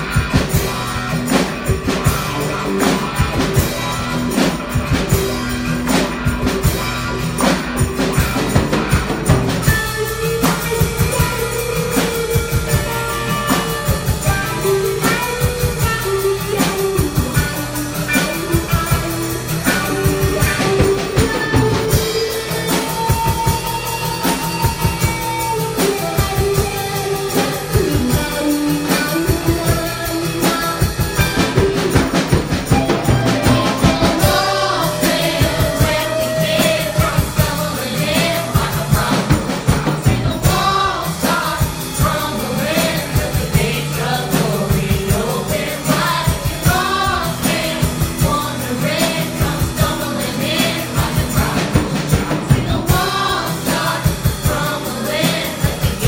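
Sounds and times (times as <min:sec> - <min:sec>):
gospel band with drums: 0:00.0 - 0:56.0
people singing: 0:00.0 - 0:56.0.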